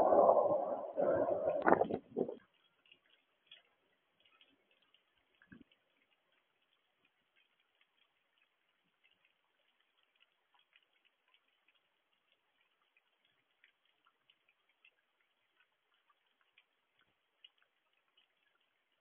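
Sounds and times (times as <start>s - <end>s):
raindrops ticking on camera: 0.0s - 19.0s.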